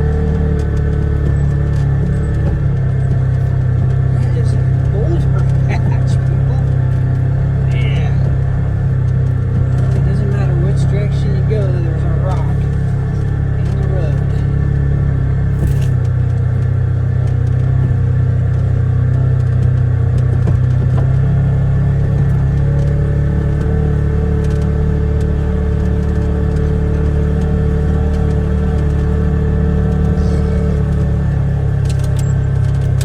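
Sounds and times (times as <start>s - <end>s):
side-by-side engine droning: 0.0s - 33.0s.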